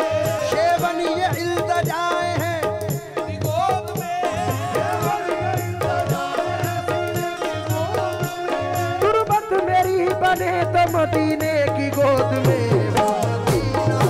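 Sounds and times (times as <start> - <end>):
hand drum beat: 0.0 - 14.0.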